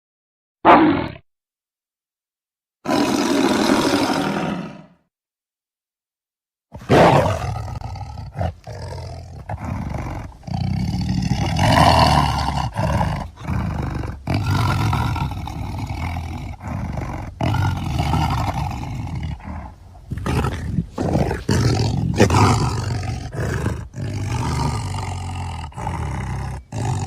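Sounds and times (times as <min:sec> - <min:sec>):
tiger roaring: 0:00.6 - 0:01.2, 0:02.8 - 0:05.0, 0:06.8 - 0:27.0.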